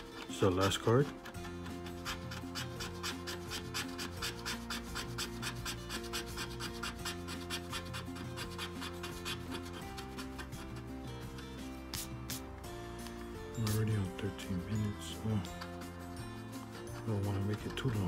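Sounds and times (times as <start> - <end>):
coin scraping lottery ticket: 0.0 - 12.4, 13.6 - 18.0
background music with sustained notes: 0.0 - 18.0.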